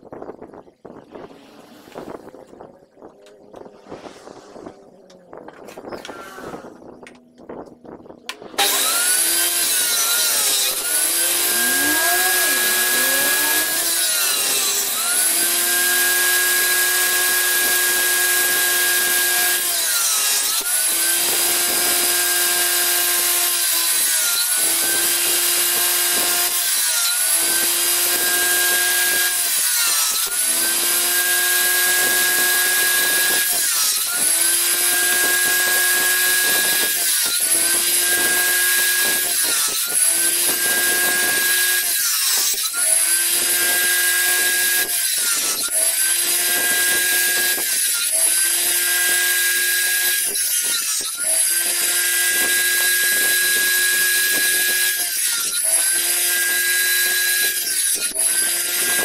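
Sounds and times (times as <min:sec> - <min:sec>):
table saw ripping wood: 0:05.5 - 0:06.9, 0:08.3 - 0:59.0.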